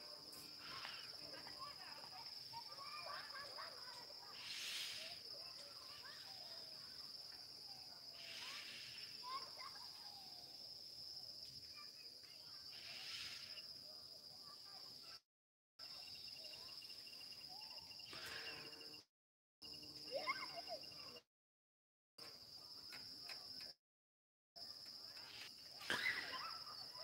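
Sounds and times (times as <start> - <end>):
crickets droning: 0.0 - 15.2, 15.8 - 21.2, 24.6 - 27.0.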